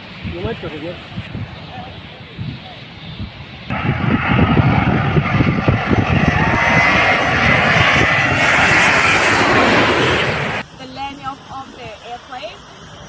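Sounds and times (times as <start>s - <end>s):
airliner engine roar: 0.0s - 13.0s.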